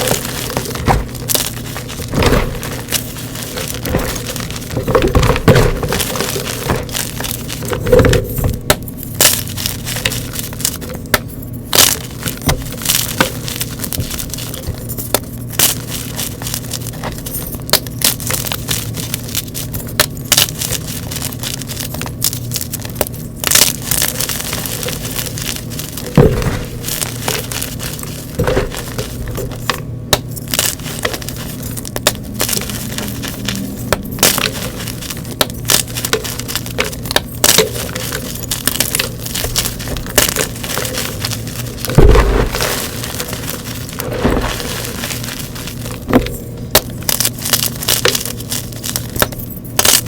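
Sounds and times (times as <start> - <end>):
chalk being crushed: 0.0 - 50.0
steady low hum: 0.0 - 50.0.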